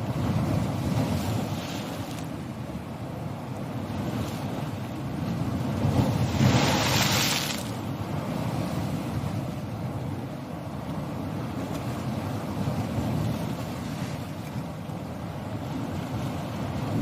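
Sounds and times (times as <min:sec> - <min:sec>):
ocean waves rumbling: 0:00.0 - 0:17.0.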